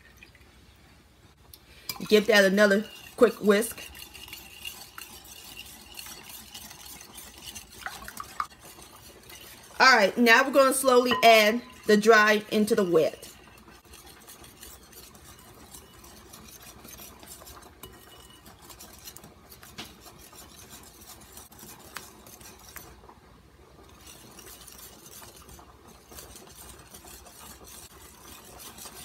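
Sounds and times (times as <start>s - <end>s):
whisk clinking: 1.9s - 22.9s, 23.8s - 29.0s
whisk scraping glass bowl: 1.9s - 23.1s, 23.7s - 29.0s.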